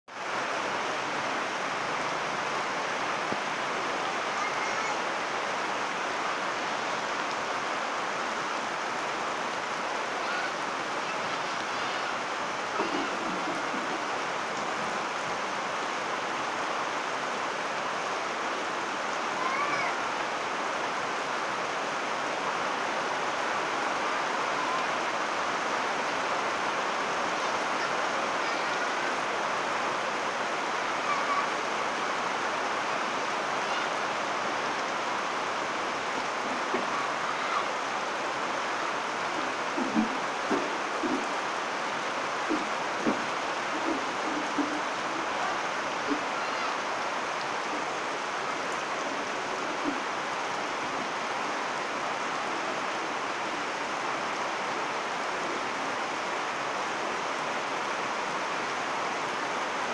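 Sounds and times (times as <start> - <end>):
heavy rain on water: 0.0 - 59.9.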